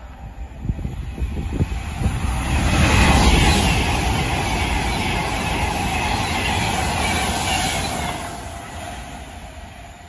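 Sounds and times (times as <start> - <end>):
electric train passing at speed: 0.0 - 10.0.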